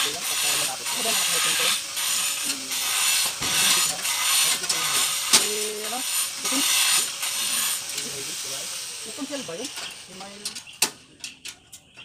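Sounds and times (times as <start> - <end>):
hand tool rasping strokes: 0.0 - 10.5.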